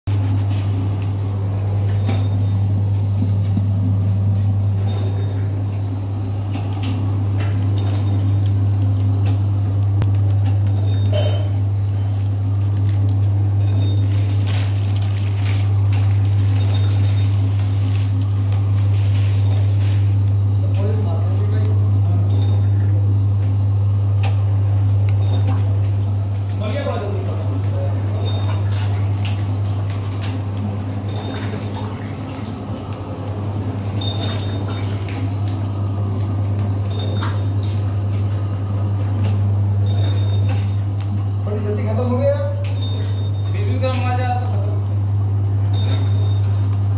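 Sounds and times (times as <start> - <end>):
packing machine humming: 0.1 - 46.9.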